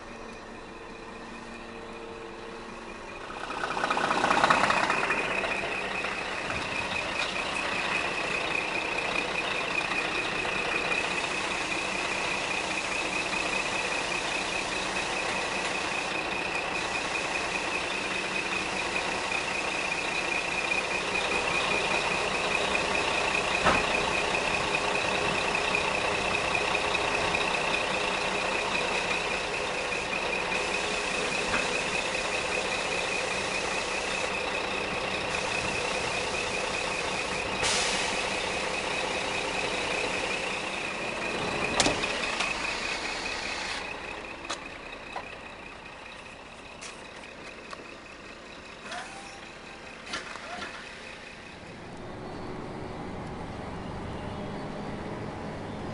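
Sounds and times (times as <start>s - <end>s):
truck warning beeper: 0.0s - 53.0s
truck engine running: 0.0s - 55.9s.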